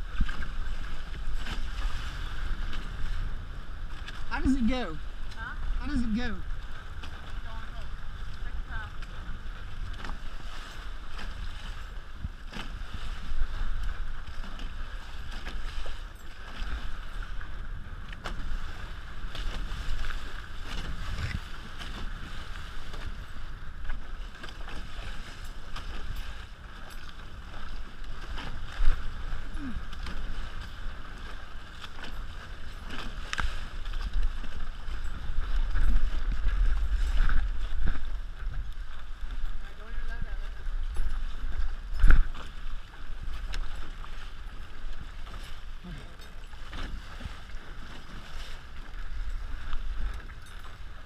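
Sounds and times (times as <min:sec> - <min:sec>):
water rushing past hulls: 0:00.0 - 0:51.0
wind rumbling on microphone: 0:00.0 - 0:51.0.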